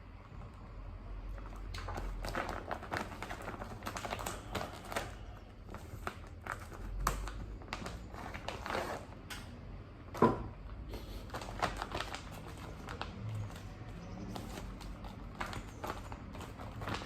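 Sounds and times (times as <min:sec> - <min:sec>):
packaging rustling: 0:01.4 - 0:09.3, 0:11.1 - 0:17.0.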